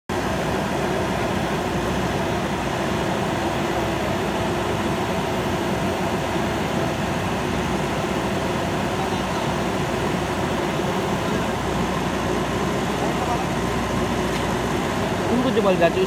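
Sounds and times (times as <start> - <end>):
diesel engine under load: 0.1 - 16.0.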